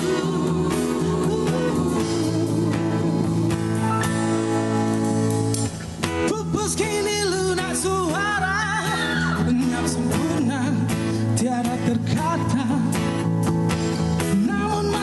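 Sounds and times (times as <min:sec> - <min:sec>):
pop song with singer and band: 0:00.0 - 0:15.0.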